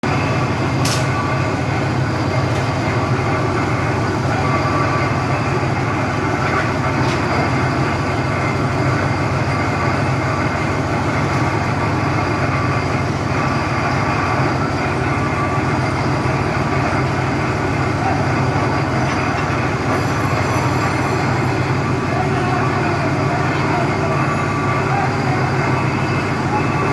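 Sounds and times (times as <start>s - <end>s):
piling machinery drone: 0.0s - 26.9s.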